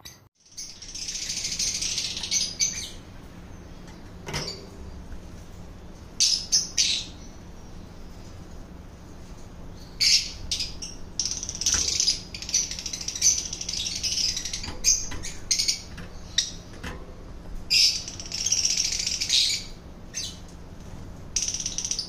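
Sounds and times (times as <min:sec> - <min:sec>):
lovebirds chattering: 0:00.0 - 0:16.9, 0:17.6 - 0:20.5, 0:21.3 - 0:22.0.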